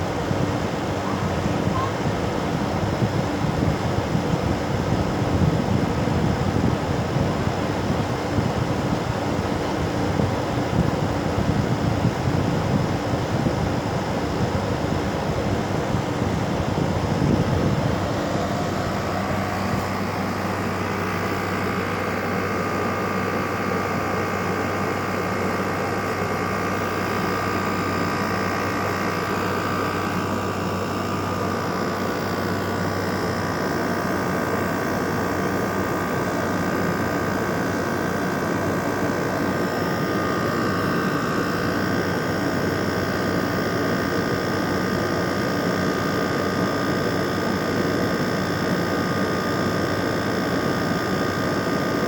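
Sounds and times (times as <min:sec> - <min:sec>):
air conditioner humming: 0:00.0 - 0:52.0
faint steady whine: 0:00.0 - 0:52.0.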